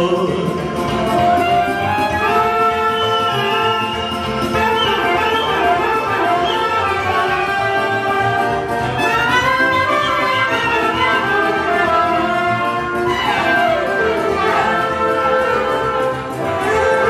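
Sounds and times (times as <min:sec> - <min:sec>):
saxophone melody: 0:00.8 - 0:17.0.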